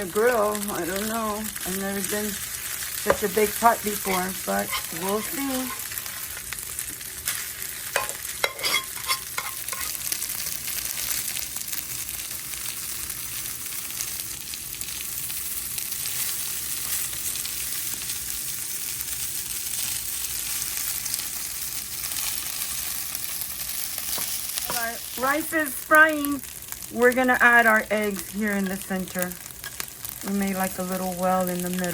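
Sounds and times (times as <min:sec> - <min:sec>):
rice sizzling on a grill: 0:00.0 - 0:31.9.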